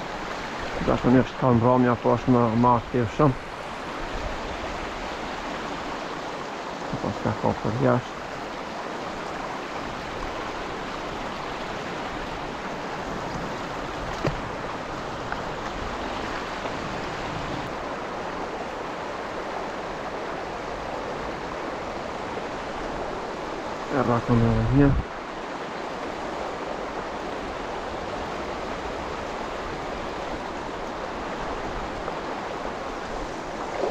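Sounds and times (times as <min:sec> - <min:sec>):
flowing river water: 0:00.0 - 0:33.9.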